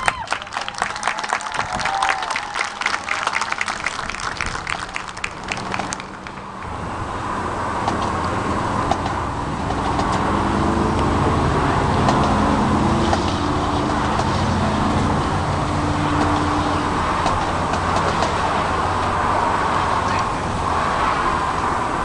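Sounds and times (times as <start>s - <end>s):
distant marching band chords: 2.4s - 20.5s.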